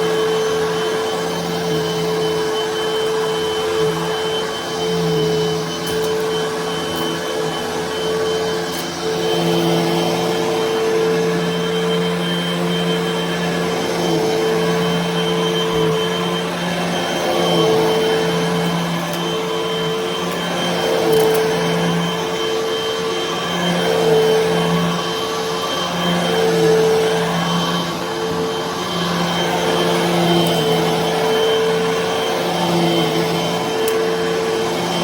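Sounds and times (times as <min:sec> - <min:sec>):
vacuum cleaner running over carpet: 0:00.0 - 0:35.0.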